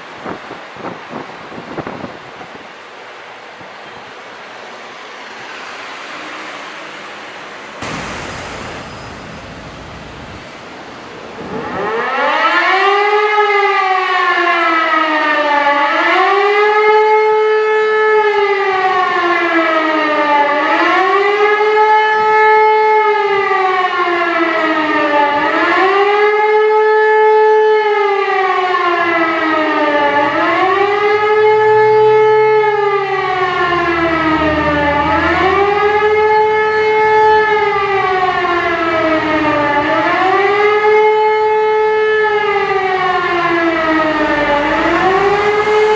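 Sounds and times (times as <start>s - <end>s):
warning siren wailing: 5.0s - 45.9s.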